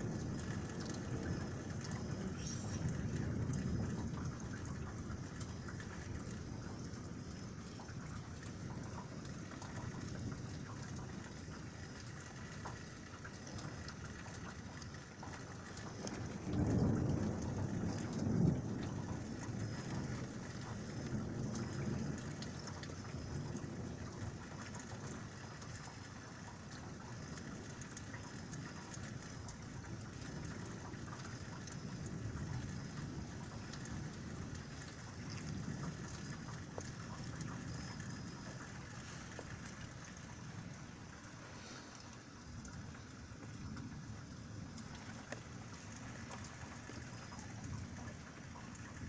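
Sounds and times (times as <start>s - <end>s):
rain pattering: 0.0s - 49.0s
thunder rumbling: 0.0s - 49.0s.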